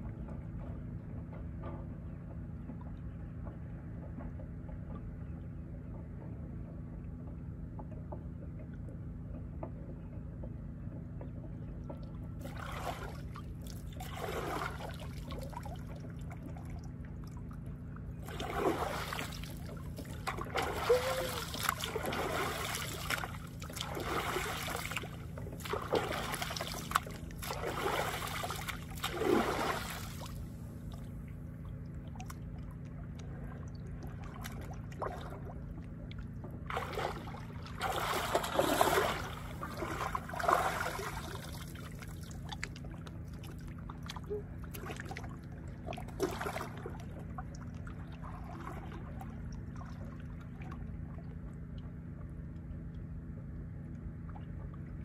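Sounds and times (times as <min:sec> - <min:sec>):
steady low rumble: 0:00.0 - 0:55.0
water splashing and sloshing: 0:07.1 - 0:55.0.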